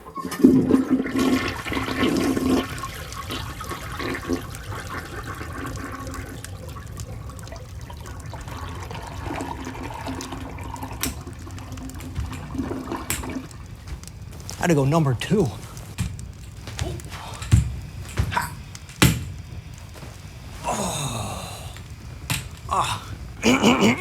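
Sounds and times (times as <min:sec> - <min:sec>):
toilet flushing: 0:00.0 - 0:24.0
water running and refilling: 0:00.0 - 0:24.0.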